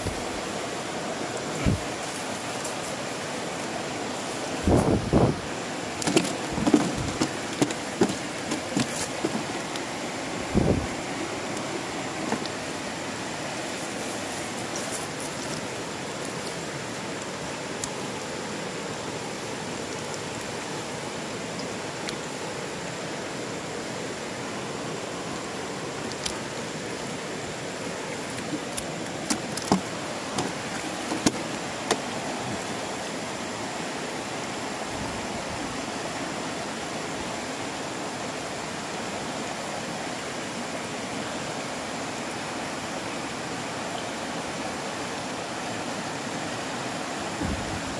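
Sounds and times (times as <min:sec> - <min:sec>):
river rushing over rocks: 0:00.0 - 0:47.9.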